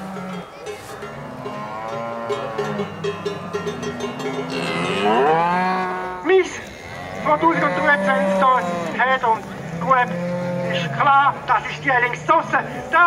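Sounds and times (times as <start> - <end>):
cows mooing: 0.0 - 13.0.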